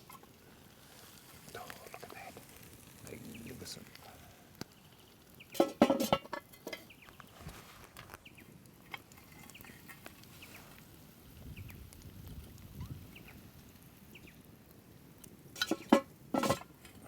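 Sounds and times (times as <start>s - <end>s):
small birds chirping: 0.0s - 5.8s, 6.5s - 14.5s.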